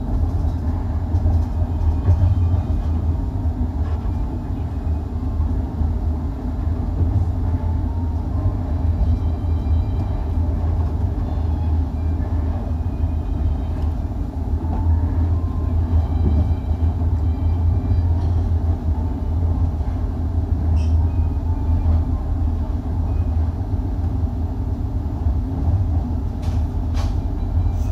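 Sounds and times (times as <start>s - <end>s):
train coach rumbling on rails: 0.0s - 27.9s.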